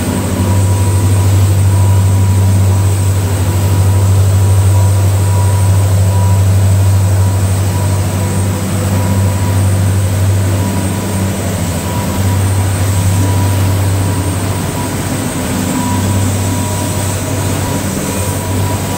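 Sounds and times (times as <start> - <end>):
boat diesel engines droning: 0.0 - 18.9.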